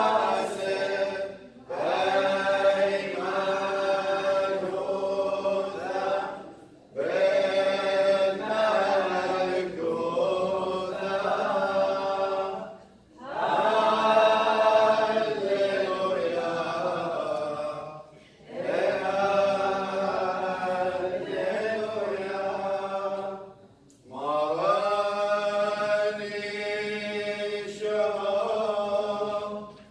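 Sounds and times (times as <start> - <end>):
liturgical chant: 0.0 - 29.9.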